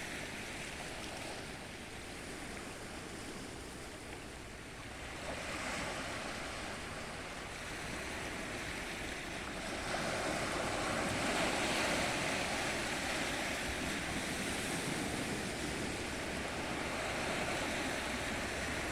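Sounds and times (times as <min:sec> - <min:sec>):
ocean waves washing in: 0:00.0 - 0:18.9.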